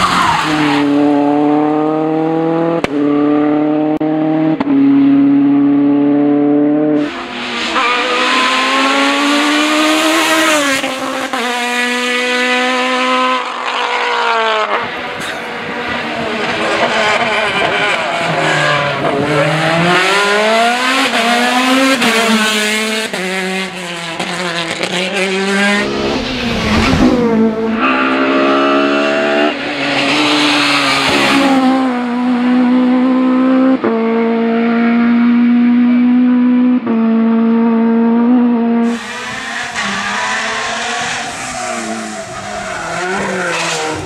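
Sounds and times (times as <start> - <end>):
race car engines revving: 0.0 - 44.0
race car passing close: 0.0 - 44.0.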